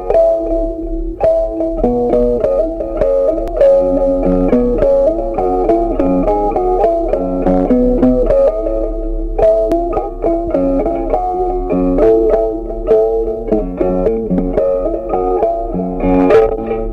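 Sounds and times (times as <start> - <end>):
plucked instrumental tune: 0.0 - 16.9.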